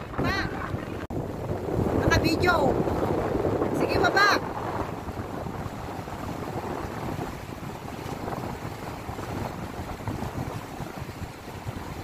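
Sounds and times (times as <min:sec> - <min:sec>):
surf breaking on rocks: 0:00.0 - 0:12.0
wind buffeting microphone: 0:00.0 - 0:12.0.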